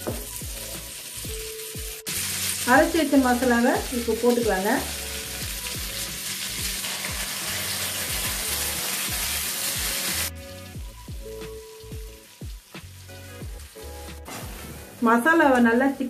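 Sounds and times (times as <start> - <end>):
background music: 0.0 - 16.0
chicken sizzling in a frying pan: 0.0 - 16.0.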